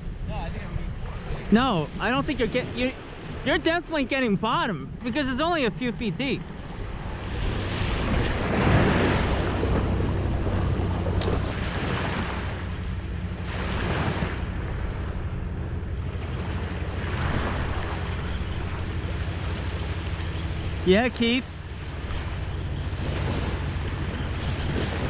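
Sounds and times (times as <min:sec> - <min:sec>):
wind noise on microphone: 0:00.0 - 0:20.4, 0:22.0 - 0:25.0
surf washing on a beach: 0:00.0 - 0:25.0.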